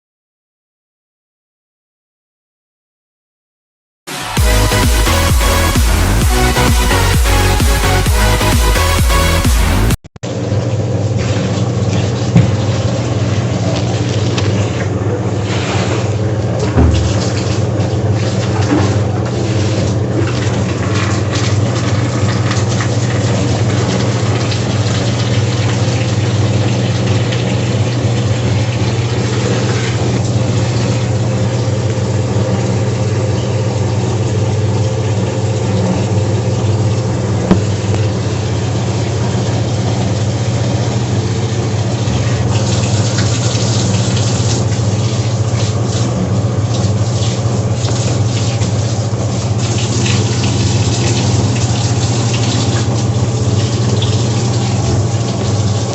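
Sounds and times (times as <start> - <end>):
washing machine humming: 4.1 - 55.9
water noise: 4.1 - 55.9.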